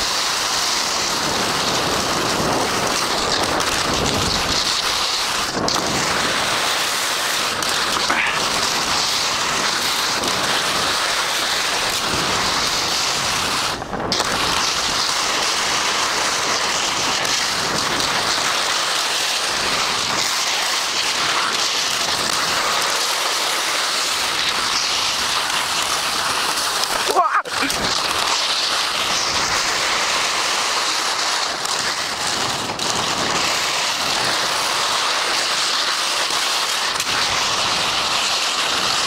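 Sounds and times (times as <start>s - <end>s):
skis hissing over snow: 0.0s - 39.0s.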